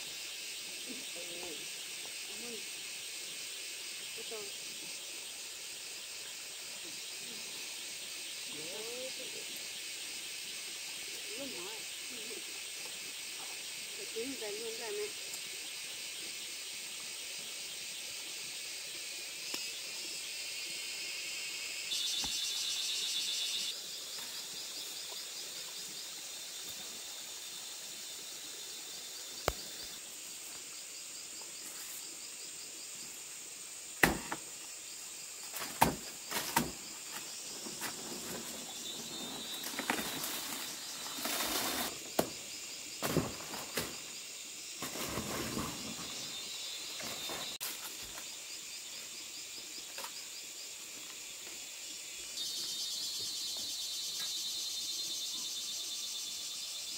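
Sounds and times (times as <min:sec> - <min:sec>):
high hiss with pulsing chirr: 0:00.0 - 0:56.9.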